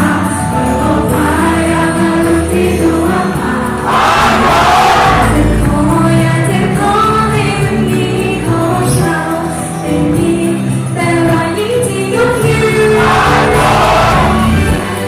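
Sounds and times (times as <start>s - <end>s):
pop song with female vocals: 0.0s - 3.9s, 5.1s - 15.0s.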